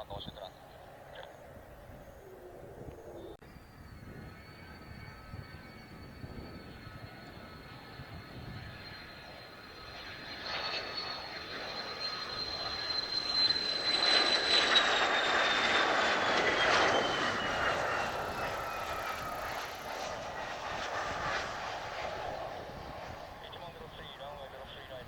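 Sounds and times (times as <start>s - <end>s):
jet fighter passing: 0.0s - 25.0s
turbofan whine: 0.0s - 25.0s.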